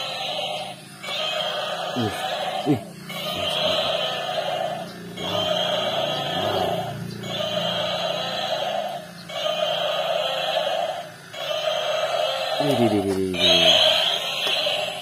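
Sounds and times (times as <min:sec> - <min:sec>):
electronic toy gorilla call: 0:00.0 - 0:15.0.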